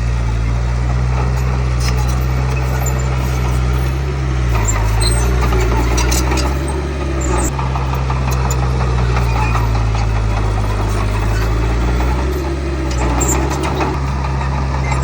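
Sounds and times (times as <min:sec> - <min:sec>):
bulldozer diesel engine running: 0:00.0 - 0:15.0
faint squeaks and clinks: 0:01.3 - 0:07.6, 0:08.2 - 0:15.0.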